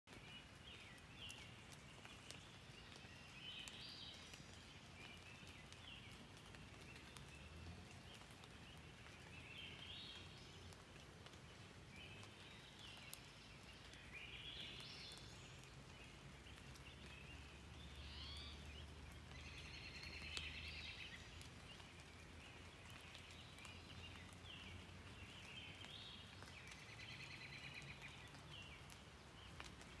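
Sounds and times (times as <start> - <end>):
light rain falling: 0.1 - 30.0
songbird singing: 0.1 - 30.0
water drips: 0.1 - 30.0.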